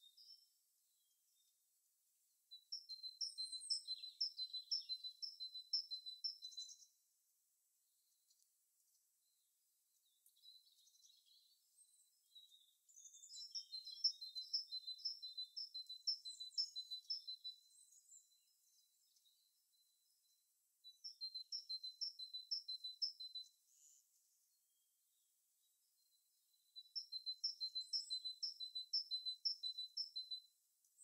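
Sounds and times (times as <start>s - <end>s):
small songbird singing: 0.0s - 1.6s, 2.5s - 7.0s, 8.0s - 31.0s.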